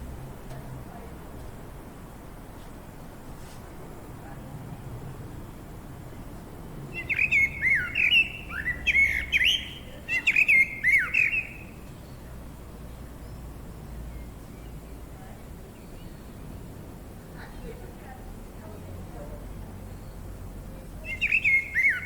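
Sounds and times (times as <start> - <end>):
low background noise: 0.0 - 22.0
songbird singing: 4.2 - 22.0.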